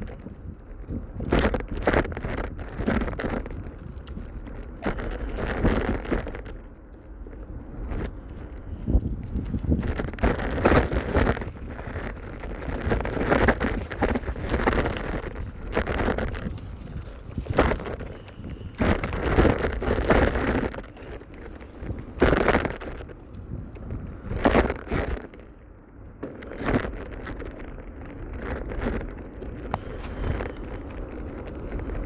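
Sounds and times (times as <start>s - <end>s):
road noise rumble: 0.0s - 32.0s
wind buffeting microphone: 0.0s - 32.0s.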